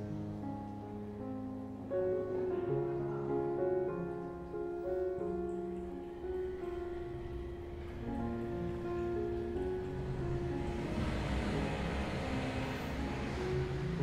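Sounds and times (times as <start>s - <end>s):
held low accompaniment: 0.0s - 14.0s
piano melody: 0.0s - 14.0s.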